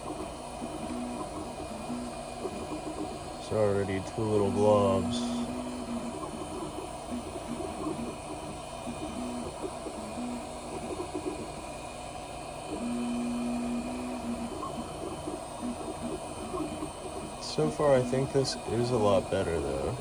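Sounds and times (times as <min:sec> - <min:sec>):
printer fans hissing: 0:00.0 - 0:20.0.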